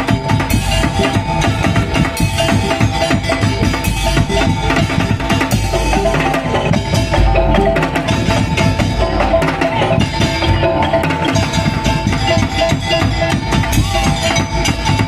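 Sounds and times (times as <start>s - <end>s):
wavering melody line: 0.0s - 15.0s
wooden slit drums and drums: 0.0s - 15.0s.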